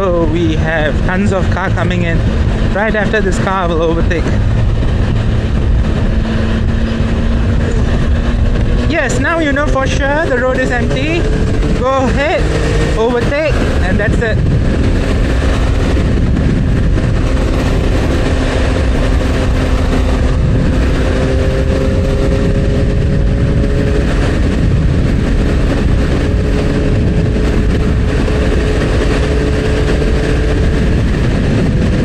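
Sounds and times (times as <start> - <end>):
motorcycle engine cruising: 0.0 - 32.0
wind and road noise rumble: 0.0 - 32.0.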